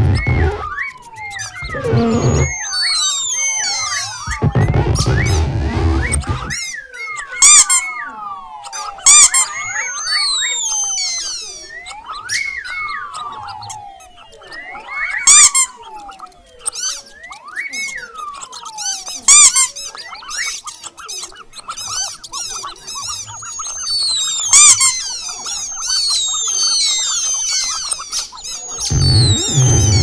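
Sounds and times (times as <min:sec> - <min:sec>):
mouse squeaks and chirps: 0:00.0 - 0:05.4, 0:08.7 - 0:30.0
long falling squeals: 0:00.0 - 0:20.4, 0:23.0 - 0:30.0.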